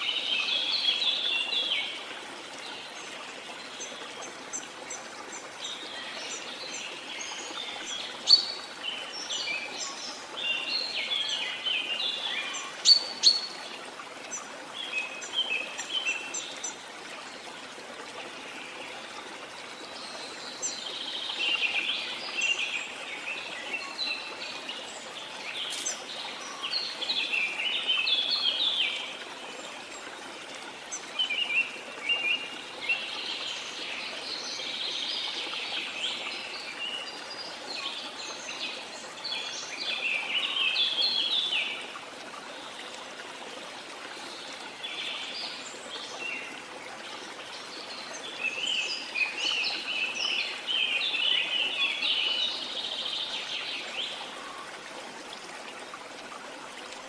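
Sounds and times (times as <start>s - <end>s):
running water hiss: 0.0s - 57.0s.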